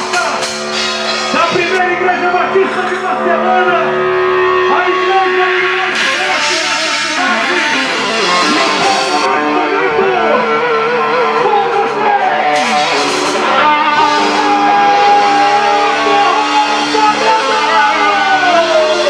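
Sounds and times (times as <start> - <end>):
band music with guitar melody: 0.0 - 19.0.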